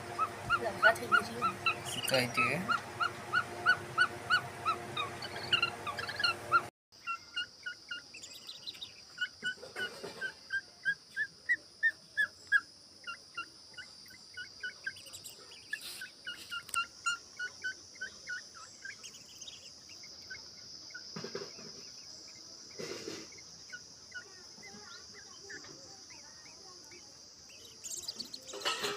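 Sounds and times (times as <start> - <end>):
young bird begging chirps: 0.0 - 21.1, 21.8 - 28.9.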